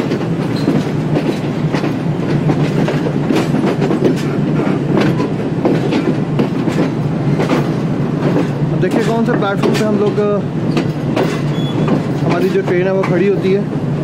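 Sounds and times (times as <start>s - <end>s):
wheels clicking over rail joints: 0.0s - 13.6s
train rumble: 0.0s - 14.0s.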